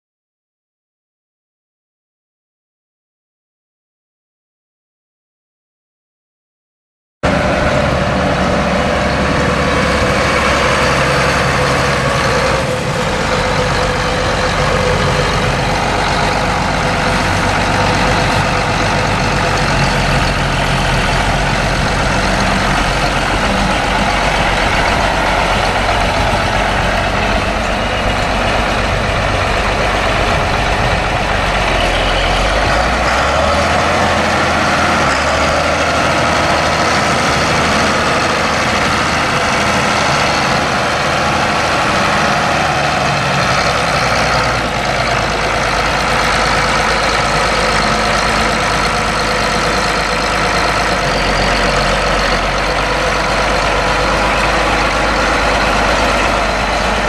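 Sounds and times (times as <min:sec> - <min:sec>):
tractor diesel engine running: 0:07.2 - 0:57.0.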